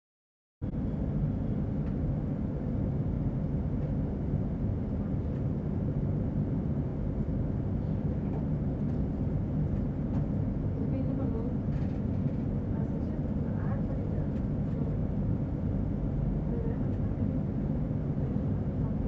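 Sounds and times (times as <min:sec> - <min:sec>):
steady low rumble: 0:00.6 - 0:19.0.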